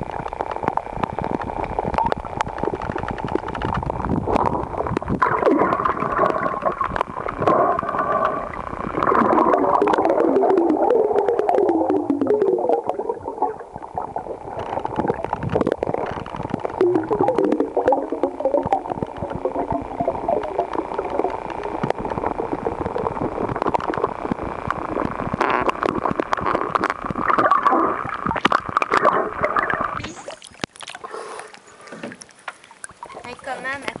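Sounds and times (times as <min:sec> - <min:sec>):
small clicks and warbling tones: 0:00.0 - 0:33.8
water gurgling underwater: 0:00.0 - 0:34.0.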